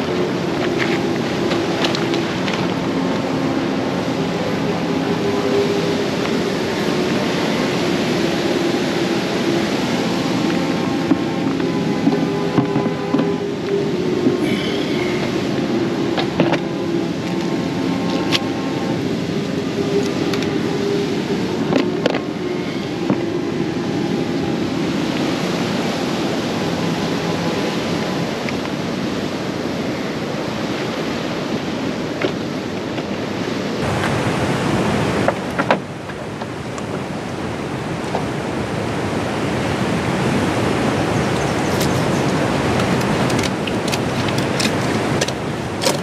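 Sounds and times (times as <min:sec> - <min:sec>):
moving water: 0:00.0 - 0:46.0
wind: 0:00.0 - 0:46.0.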